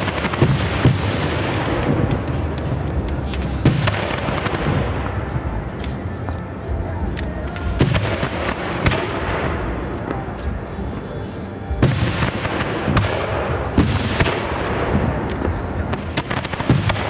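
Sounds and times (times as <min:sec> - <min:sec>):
fireworks bursting bangs: 0:00.0 - 0:05.6, 0:07.6 - 0:10.3, 0:11.7 - 0:17.0.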